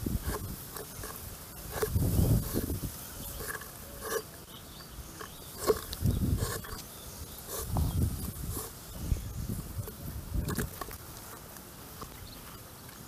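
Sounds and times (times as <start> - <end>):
bamboo sticks scraping and clicking: 0.0 - 8.9, 9.7 - 13.0.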